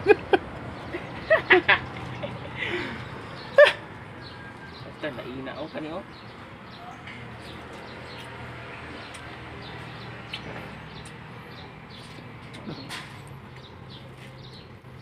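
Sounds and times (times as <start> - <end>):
small birds chirping: 0.7 - 15.0.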